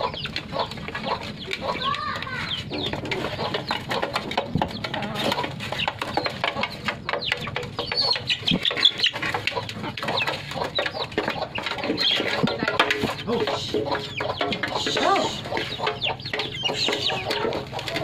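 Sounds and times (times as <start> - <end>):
beaks pecking and chewing: 0.0 - 18.0
hens clucking: 0.0 - 18.0.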